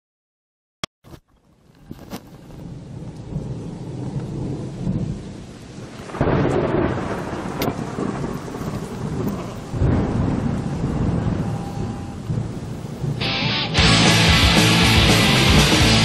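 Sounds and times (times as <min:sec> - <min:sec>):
steady rain: 0:01.4 - 0:16.0
rolling thunder: 0:02.6 - 0:16.0.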